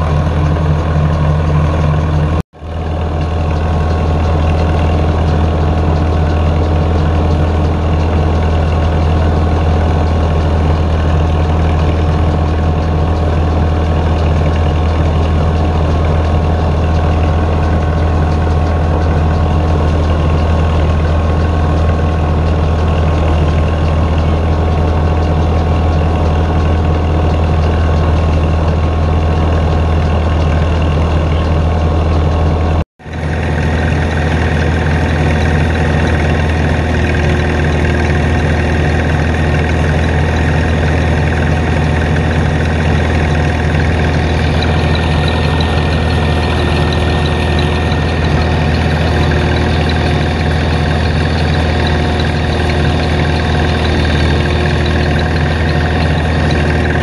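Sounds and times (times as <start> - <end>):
engine drone: 0.0 - 57.0
threshing machine running: 0.0 - 57.0.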